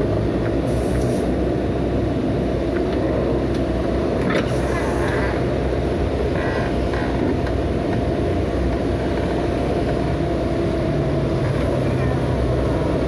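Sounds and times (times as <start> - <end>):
heavy machinery diesel engine droning: 0.0 - 13.0.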